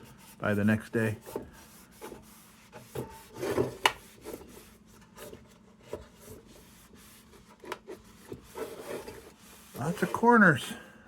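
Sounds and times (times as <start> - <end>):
rag wiping metal: 0.0 - 10.8.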